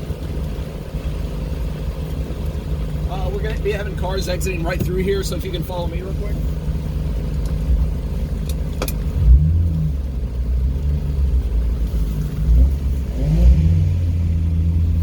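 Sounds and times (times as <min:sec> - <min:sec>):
car engine running: 0:00.0 - 0:15.0
engine throttle blips: 0:00.0 - 0:15.0.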